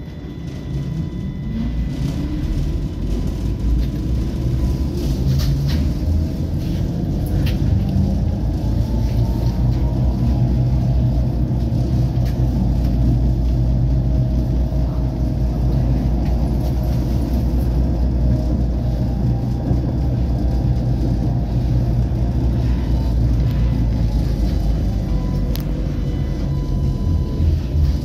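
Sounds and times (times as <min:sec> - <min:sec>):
faint steady whining tones: 0:00.0 - 0:28.0
tram wheels rumbling on rails: 0:00.0 - 0:28.0.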